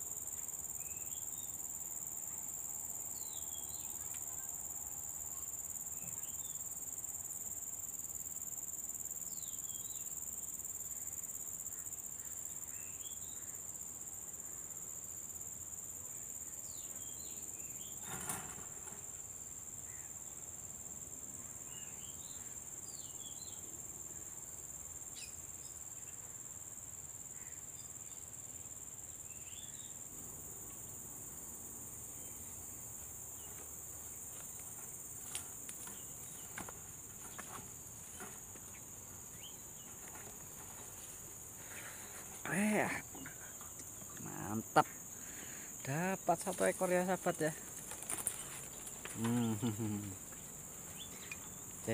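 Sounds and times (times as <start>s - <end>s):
insects chorus: 0.0s - 51.9s.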